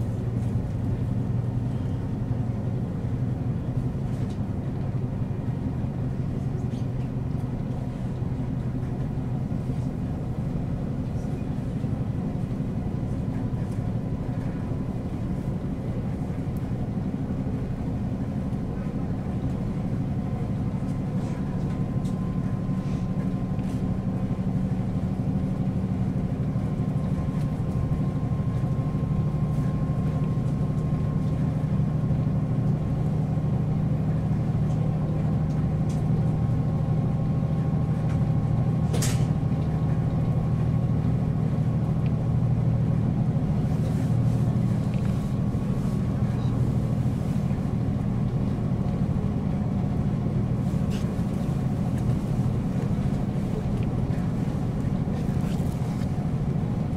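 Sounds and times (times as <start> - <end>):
diesel railcar engine drone: 0.0 - 56.9.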